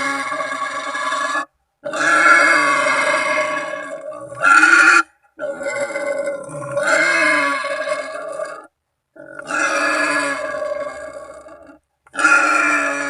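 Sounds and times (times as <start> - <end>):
wild boar crying: 0.0 - 13.0.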